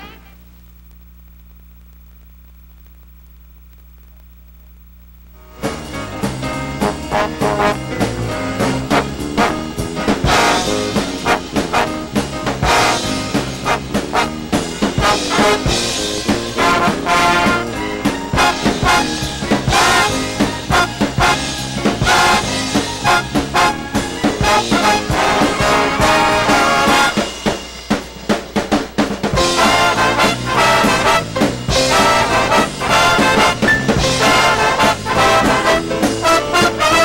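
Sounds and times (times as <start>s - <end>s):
big band swing music: 0.0s - 0.3s, 5.4s - 37.0s.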